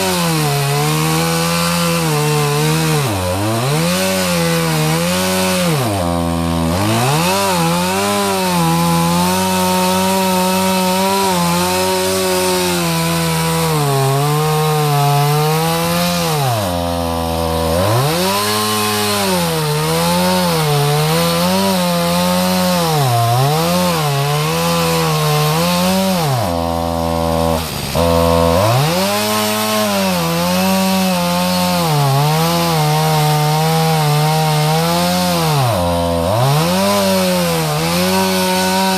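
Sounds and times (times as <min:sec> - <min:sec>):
chainsaw cutting and labouring: 0:00.0 - 0:38.9.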